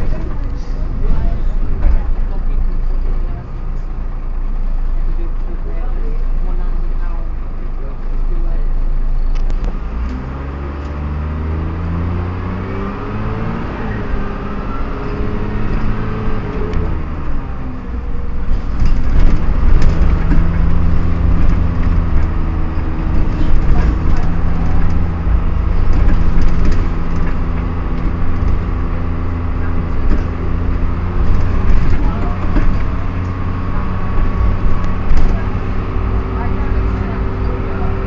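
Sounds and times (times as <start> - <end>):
bus engine and gearbox: 0.0 - 38.0.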